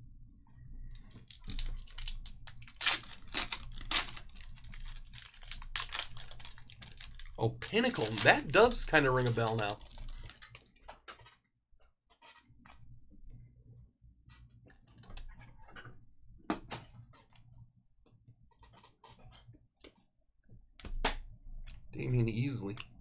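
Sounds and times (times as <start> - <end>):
low steady hum: 0.0 - 19.7.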